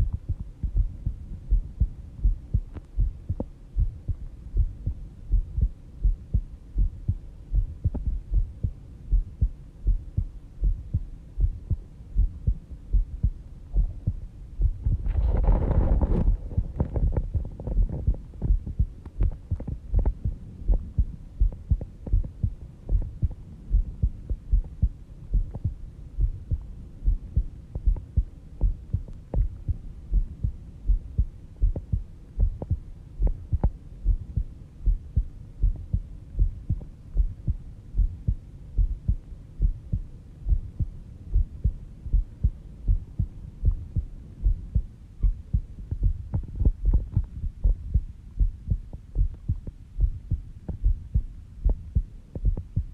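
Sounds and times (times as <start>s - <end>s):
heartbeat thumps: 0.0s - 52.9s.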